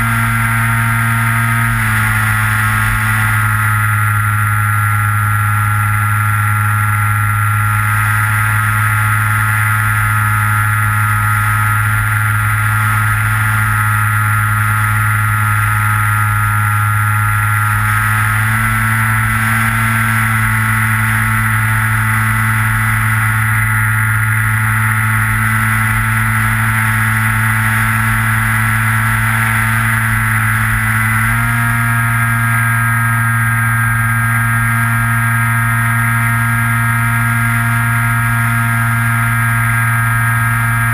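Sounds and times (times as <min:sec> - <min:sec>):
model plane motor and propeller: 0:00.0 - 0:40.9.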